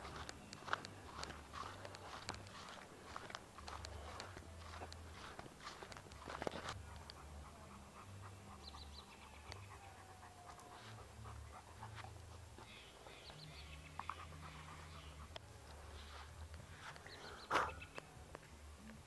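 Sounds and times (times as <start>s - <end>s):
dog panting: 0.0s - 17.8s.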